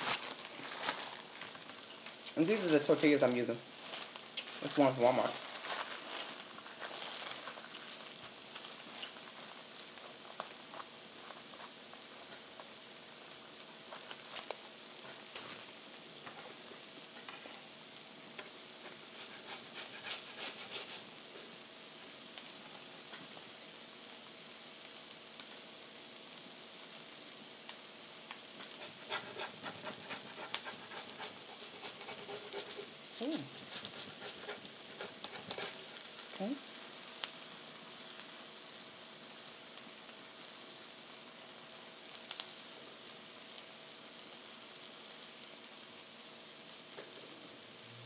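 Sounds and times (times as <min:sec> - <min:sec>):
tacos sizzling on griddle: 0:00.0 - 0:48.0.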